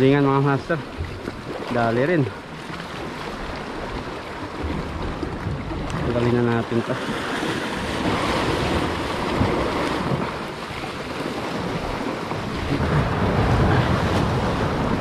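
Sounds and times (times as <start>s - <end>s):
surf washing on rocky shore: 0.0s - 15.0s
wind rumbling on microphone: 0.0s - 15.0s.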